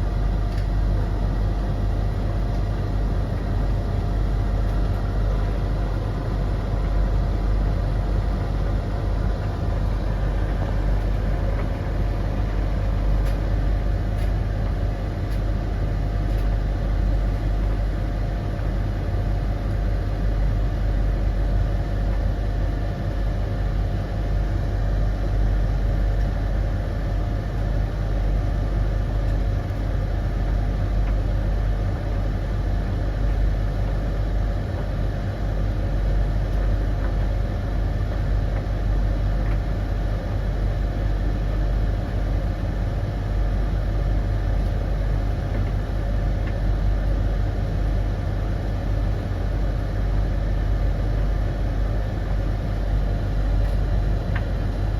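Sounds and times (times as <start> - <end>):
faint steady whine: 0.0 - 54.9
tumble dryers humming: 0.0 - 54.9.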